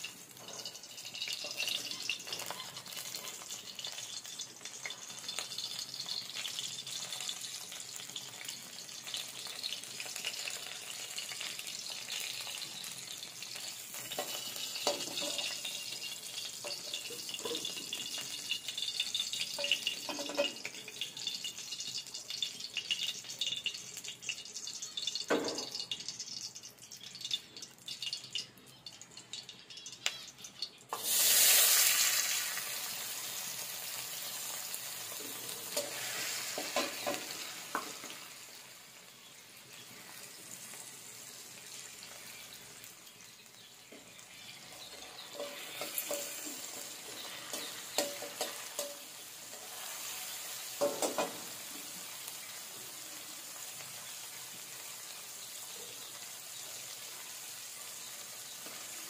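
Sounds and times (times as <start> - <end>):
loud burst of sizzling: 0.0 - 28.5, 29.3 - 59.0
oil sizzling in a pan: 0.0 - 59.0.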